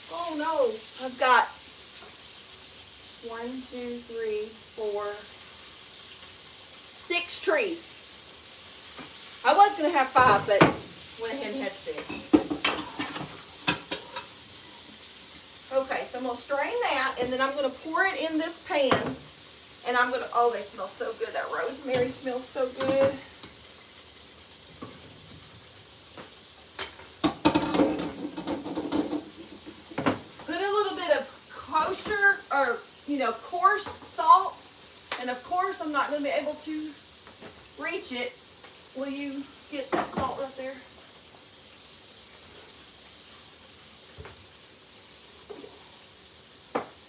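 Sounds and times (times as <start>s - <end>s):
meat sizzling in a pan: 0.0s - 47.0s.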